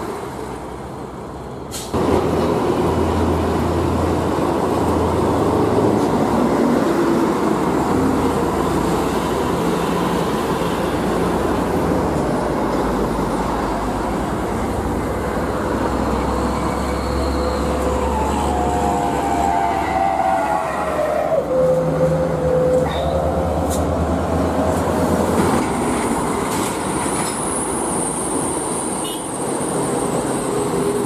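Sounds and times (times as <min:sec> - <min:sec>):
heavy road traffic: 0:00.0 - 0:31.0.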